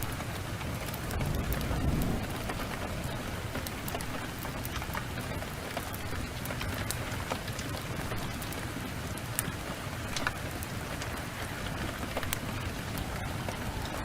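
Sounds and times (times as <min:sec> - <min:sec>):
heavy rain pouring: 0:00.0 - 0:14.0
wood fire crackling: 0:00.0 - 0:14.0.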